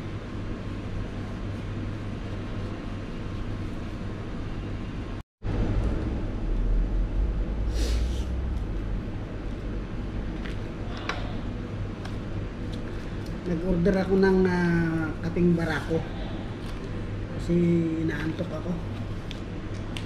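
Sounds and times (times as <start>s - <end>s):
low background rumble: 0.0s - 19.8s.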